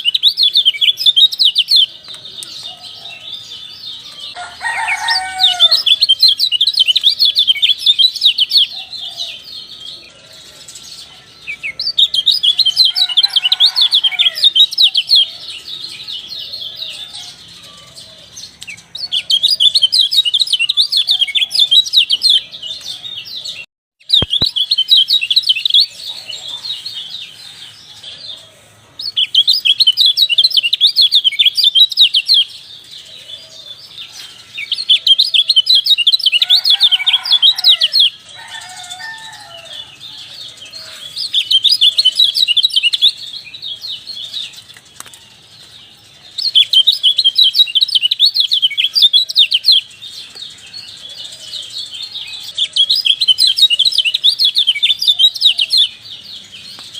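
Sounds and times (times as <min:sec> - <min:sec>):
lower descending bird calls: 0:00.0 - 0:56.0
bird twittering chirps: 0:00.0 - 0:56.9.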